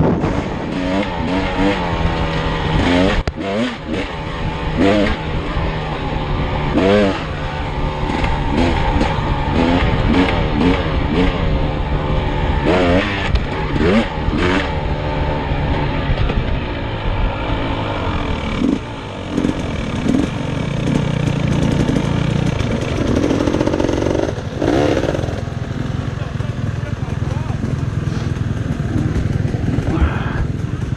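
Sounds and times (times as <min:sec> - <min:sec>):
dirt bike engine revving: 0:00.0 - 0:30.9
steady rushing noise: 0:00.0 - 0:30.9.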